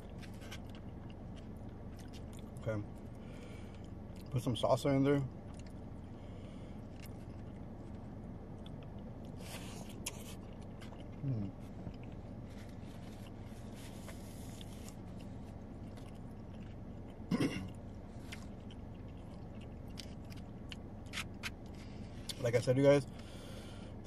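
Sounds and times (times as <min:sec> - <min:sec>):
chewing and biting food: 0:00.0 - 0:04.3, 0:05.3 - 0:22.4
low background hum: 0:00.0 - 0:24.0.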